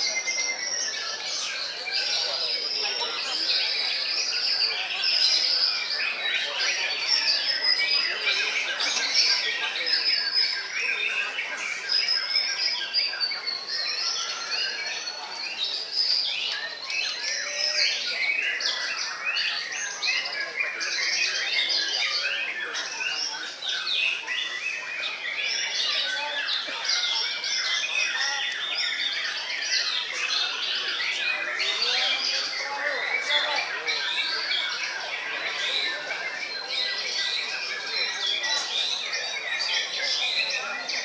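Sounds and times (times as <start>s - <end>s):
songbirds whistling and trilling: 0.0s - 41.0s.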